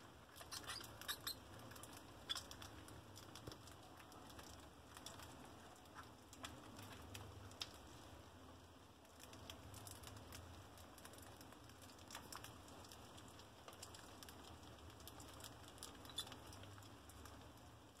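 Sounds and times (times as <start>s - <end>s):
mice scurrying with light clicks: 0.2s - 8.1s, 9.0s - 18.0s.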